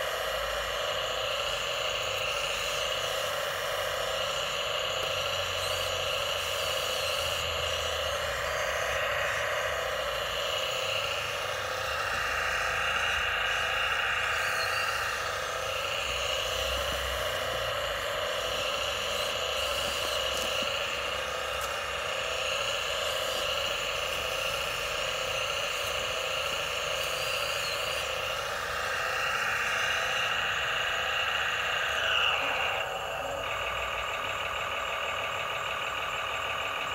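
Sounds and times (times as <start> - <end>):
electric gear motors whining: 0.0 - 36.9.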